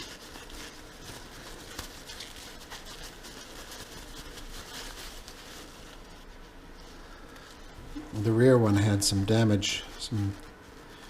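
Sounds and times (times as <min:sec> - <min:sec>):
parts and packaging handled: 0:00.0 - 0:11.0.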